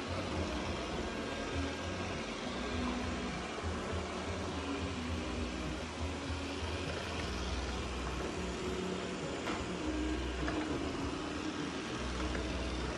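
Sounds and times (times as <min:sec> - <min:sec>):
robot vacuum running: 0:00.0 - 0:12.9.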